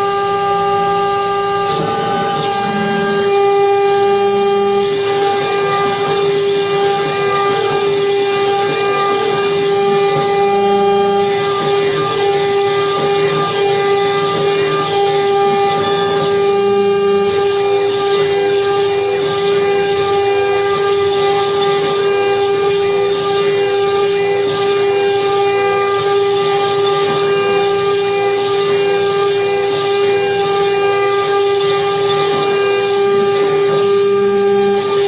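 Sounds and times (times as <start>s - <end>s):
cnc spindle whine: 0.0s - 35.0s
router bit cutting board: 0.0s - 35.0s.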